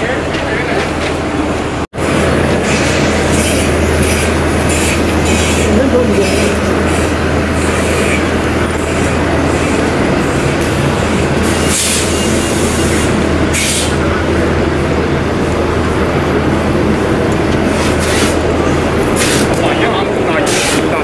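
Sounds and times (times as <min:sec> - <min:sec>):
subway train rumble: 0:00.0 - 0:21.0.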